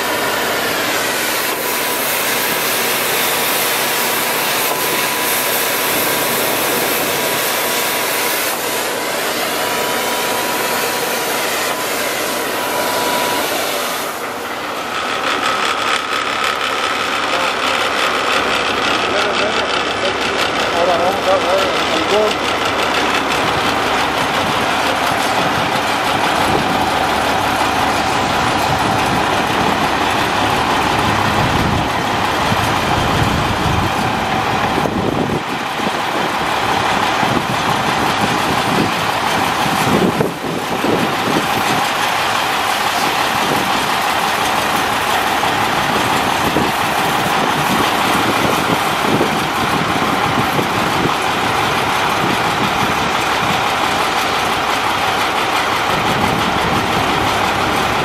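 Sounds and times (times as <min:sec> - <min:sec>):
sewer truck machinery running: 0:00.0 - 0:58.0.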